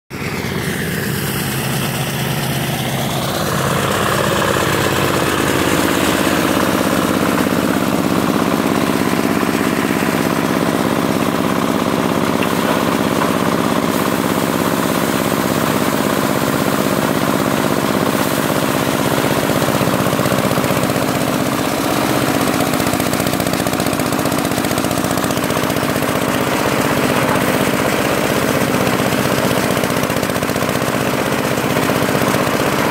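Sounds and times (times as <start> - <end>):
rice thresher running: 0.1 - 32.9.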